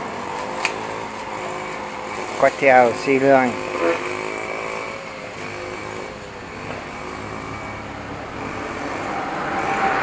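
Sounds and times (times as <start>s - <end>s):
road traffic hum: 0.0s - 10.0s
vehicle approaching: 0.0s - 10.0s.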